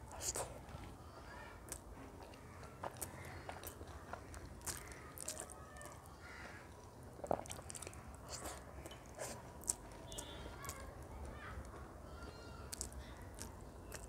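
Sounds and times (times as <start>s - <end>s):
wet chewing and lip smacks: 1.6s - 11.8s, 12.6s - 14.0s.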